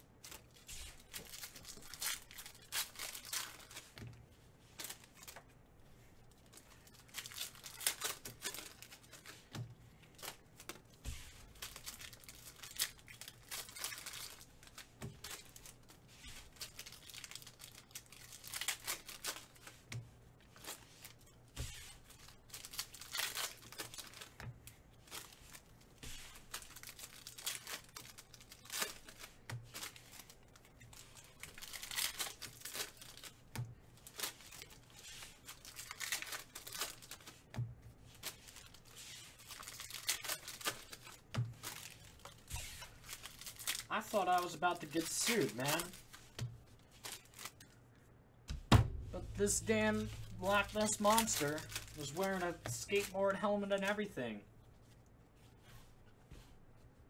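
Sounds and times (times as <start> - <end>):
foil wrappers tearing and crinkling: 0.2 - 4.0, 6.4 - 9.4, 10.1 - 19.8, 20.5 - 24.4, 25.0 - 37.5, 38.1 - 47.8, 49.2 - 54.0.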